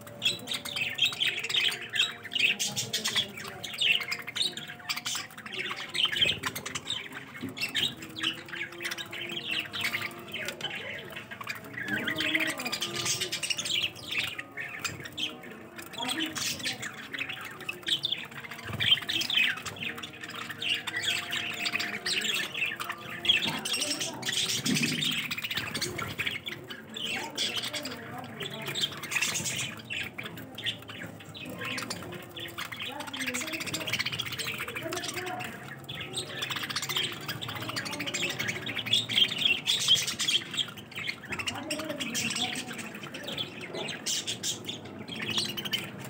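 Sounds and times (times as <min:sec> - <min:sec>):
budgerigars chattering: 0:00.0 - 0:46.0.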